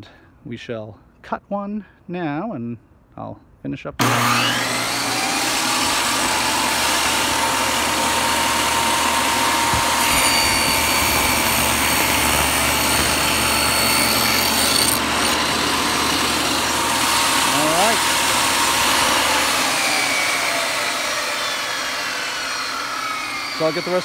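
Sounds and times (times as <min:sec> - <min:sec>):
saw blade ripping wood: 0:04.0 - 0:24.0
table saw motor whine: 0:04.0 - 0:24.0.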